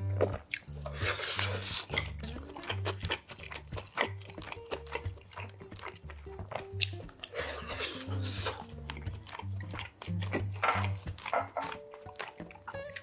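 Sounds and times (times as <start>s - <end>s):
background music with bass line: 0.0s - 13.0s
man chewing food: 0.0s - 13.0s
wet mouth clicks and lip smacks: 0.1s - 13.0s.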